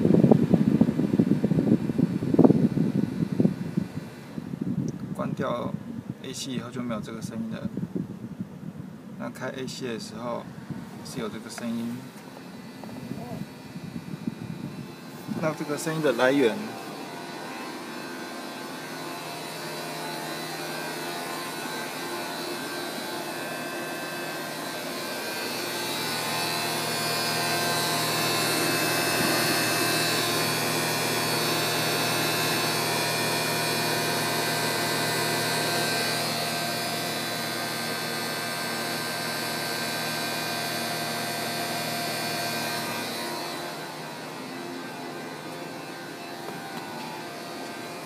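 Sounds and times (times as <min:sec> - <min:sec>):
air conditioning humming and whining: 0:00.0 - 0:48.0.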